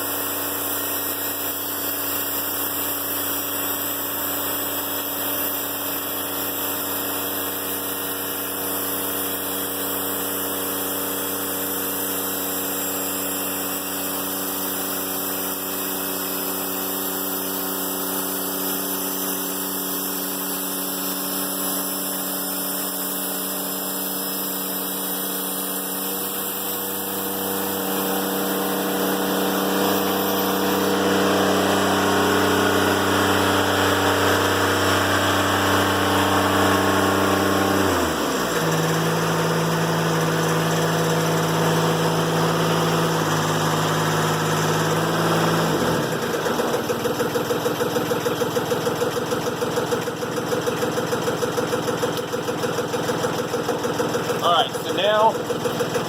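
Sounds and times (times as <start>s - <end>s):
sawmill diesel engine running: 0.0s - 56.0s.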